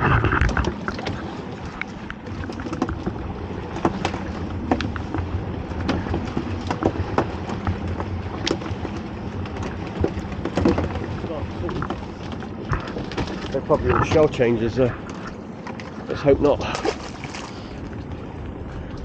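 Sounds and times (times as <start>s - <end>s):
noisy water wash: 0.0s - 19.0s
steady low hum: 0.0s - 19.0s
rain drops ticking on a boat: 0.3s - 16.8s.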